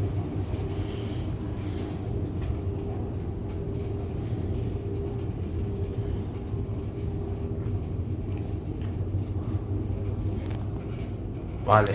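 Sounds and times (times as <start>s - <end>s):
faint high hum: 0.0s - 11.9s
lift drive hum and rumble: 0.0s - 11.9s.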